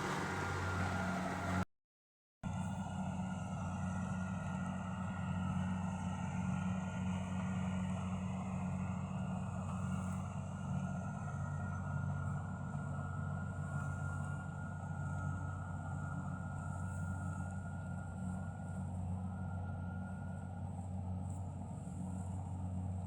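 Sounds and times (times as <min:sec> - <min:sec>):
engine humming steadily: 0:00.0 - 0:01.7, 0:02.4 - 0:23.0.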